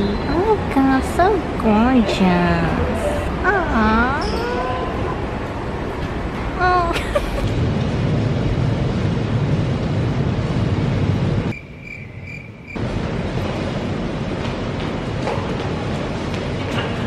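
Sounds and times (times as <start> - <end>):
low rumbling of subway station: 0.0 - 17.0.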